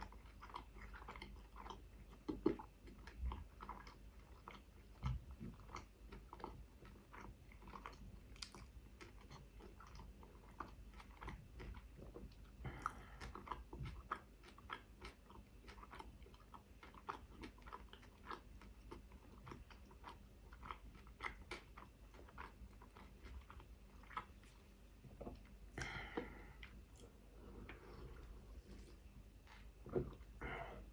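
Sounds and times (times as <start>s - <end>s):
wet chewing clicks: 0.0s - 30.6s.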